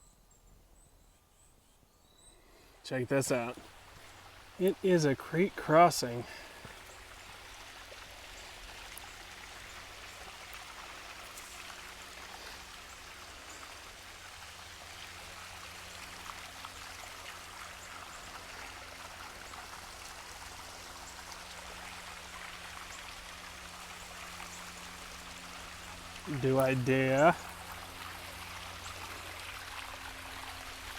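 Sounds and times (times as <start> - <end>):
creek water babbling: 2.6 - 30.9.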